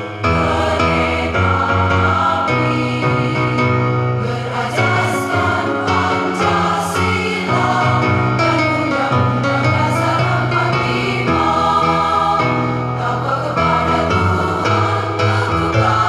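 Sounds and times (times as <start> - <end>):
women's choir singing a march: 0.0 - 16.0.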